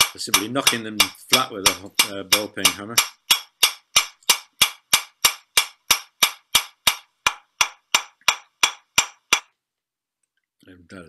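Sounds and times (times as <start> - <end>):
hammer striking metal rivets: 0.0 - 9.5.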